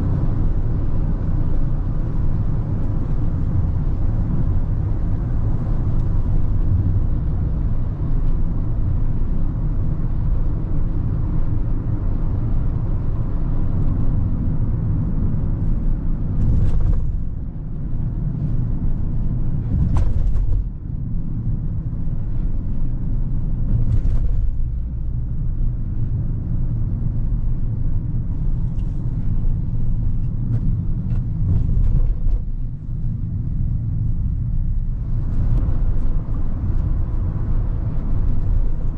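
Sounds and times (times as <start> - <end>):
in-cabin engine and road rumble: 0.0 - 38.9.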